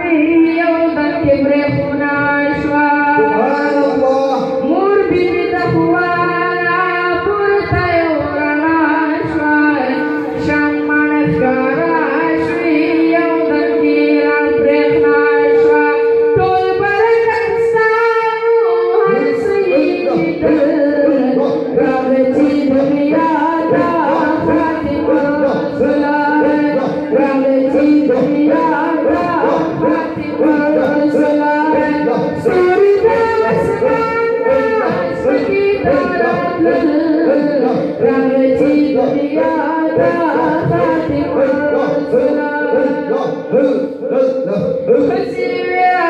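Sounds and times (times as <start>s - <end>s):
man singing through loudspeakers: 0.0s - 46.0s.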